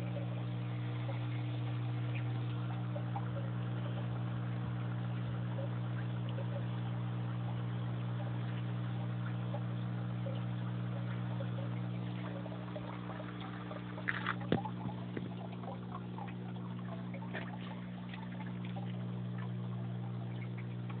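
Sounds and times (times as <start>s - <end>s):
aquarium pump humming: 0.0s - 21.0s
water trickling: 0.0s - 21.0s.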